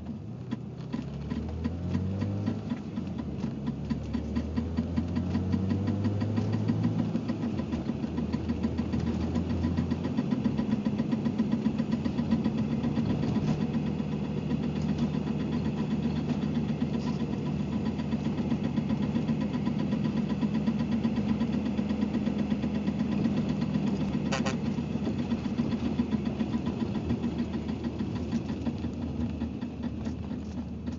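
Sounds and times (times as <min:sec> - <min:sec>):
car engine idling: 0:00.0 - 0:30.9
rapid steady clicking: 0:00.0 - 0:30.9.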